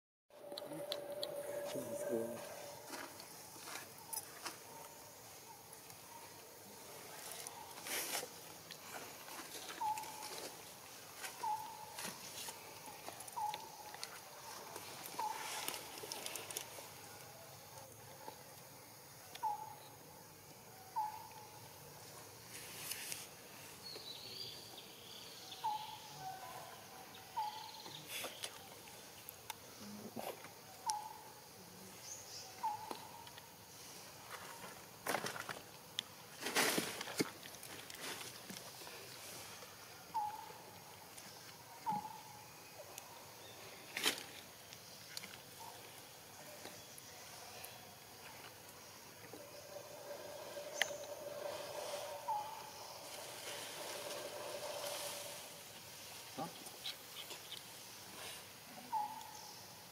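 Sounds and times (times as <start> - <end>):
forest ambience: 0.3 - 59.9.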